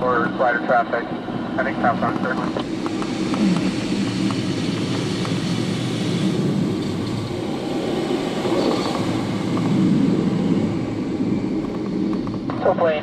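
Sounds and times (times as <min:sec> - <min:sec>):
airflow rushing over glider: 0:00.0 - 0:13.0.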